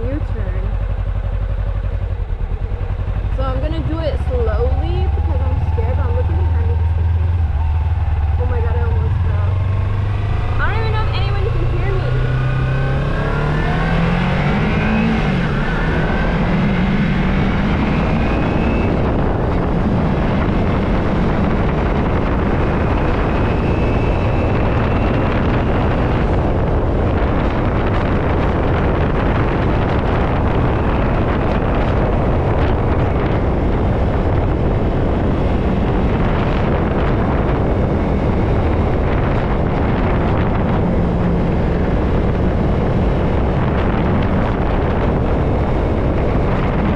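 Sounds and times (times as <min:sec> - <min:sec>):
motorcycle engine: 0:00.0 - 0:46.9
wind noise on microphone: 0:00.0 - 0:46.9.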